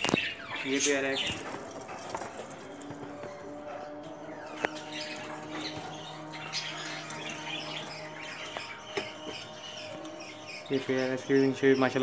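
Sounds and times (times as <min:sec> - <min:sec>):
budgerigars chirping and chattering: 0:00.0 - 0:12.0
steady low hum: 0:00.0 - 0:12.0.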